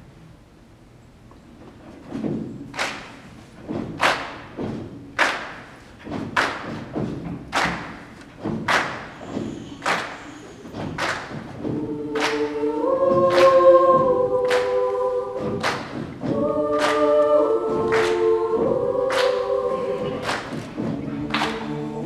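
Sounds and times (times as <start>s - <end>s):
choir clapping in rhythm: 2.6s - 22.0s.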